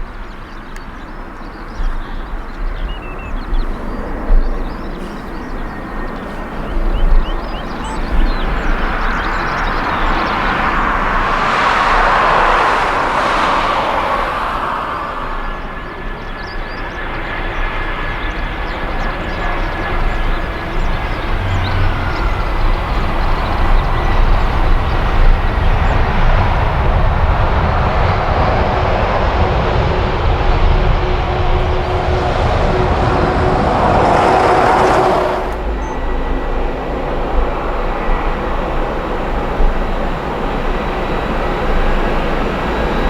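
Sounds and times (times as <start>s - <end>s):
jet engines roaring: 3.4s - 43.0s.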